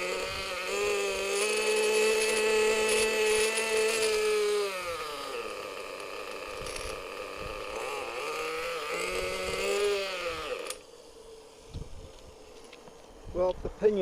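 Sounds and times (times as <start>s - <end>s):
model truck engine revving: 0.0s - 11.6s
faint hum: 1.1s - 14.0s.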